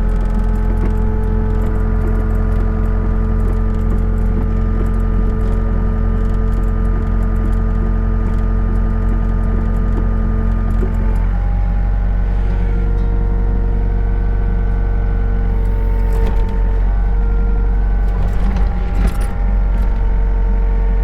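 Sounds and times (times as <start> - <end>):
excavator diesel engine rumbling: 0.0 - 21.0.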